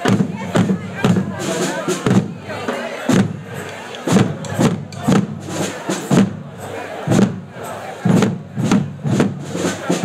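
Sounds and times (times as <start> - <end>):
crowd chatter: 0.0 - 10.0
marching drums beating: 0.0 - 10.0.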